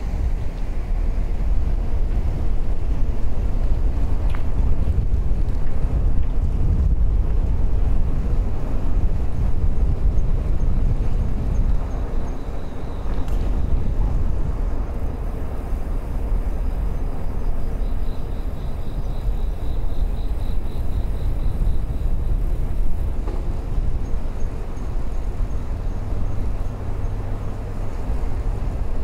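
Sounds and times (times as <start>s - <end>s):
road noise: 0.0s - 29.0s
wind rumble on microphone: 0.0s - 29.0s.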